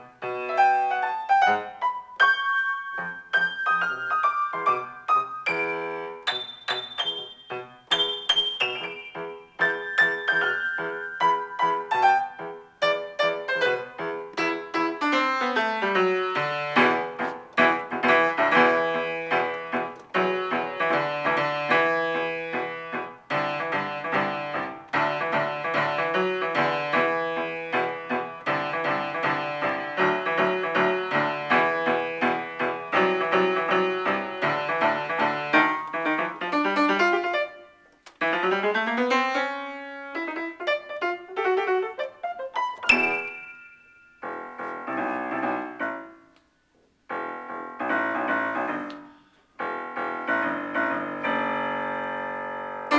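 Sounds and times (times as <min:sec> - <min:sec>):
piano playing: 0:00.0 - 0:46.4, 0:47.0 - 0:52.9.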